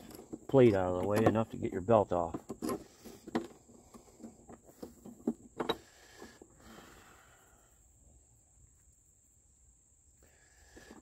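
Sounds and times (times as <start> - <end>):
faint cricket chirring: 0.0 - 11.0.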